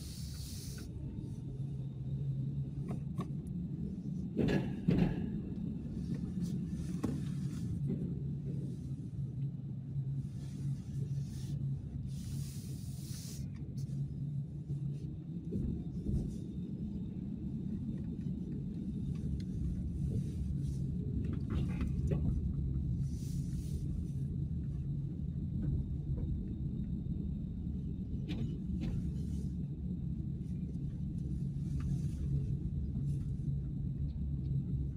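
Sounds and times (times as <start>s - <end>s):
car engine and tyre rumble: 0.0s - 34.9s.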